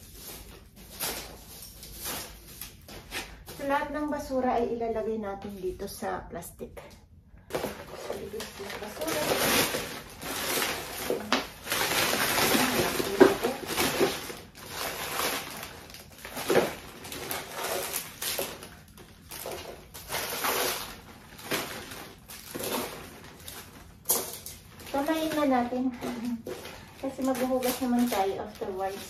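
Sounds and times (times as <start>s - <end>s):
plastic bag rustling: 0.0s - 4.4s, 7.5s - 29.0s.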